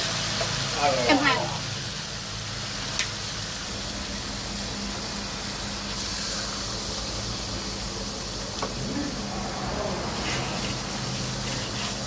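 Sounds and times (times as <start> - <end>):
oil sizzling in a wok: 0.0 - 12.0.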